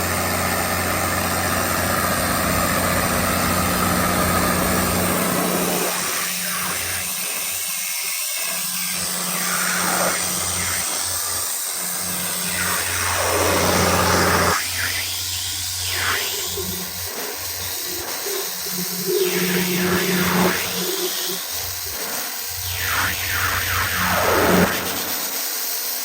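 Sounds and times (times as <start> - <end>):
diesel generator engine drone: 0.0 - 7.1, 9.0 - 25.1.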